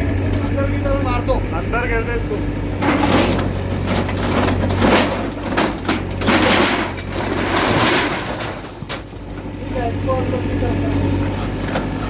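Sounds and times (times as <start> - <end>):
bulldozer engine running: 0.0 - 12.0
structure crashing and crumbling: 1.2 - 12.0.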